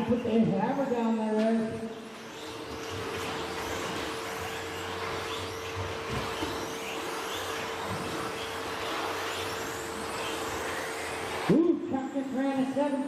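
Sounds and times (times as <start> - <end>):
rc truck motors whining: 0.0 - 13.0
steady hum: 0.0 - 13.0
tyres and running gear noise: 0.0 - 13.0.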